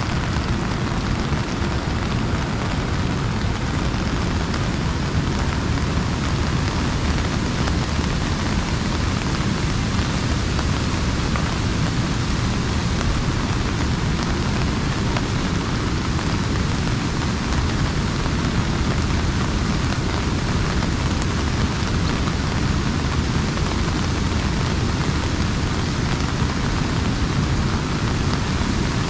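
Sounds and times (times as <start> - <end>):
rain pattering on umbrella: 0.0 - 29.0.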